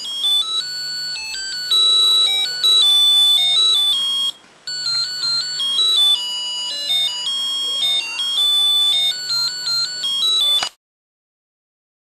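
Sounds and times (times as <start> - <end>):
electronic beeping melody: 0.0 - 10.8.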